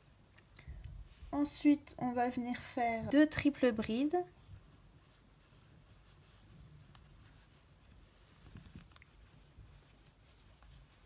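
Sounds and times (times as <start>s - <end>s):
faint rustling: 0.0s - 11.0s.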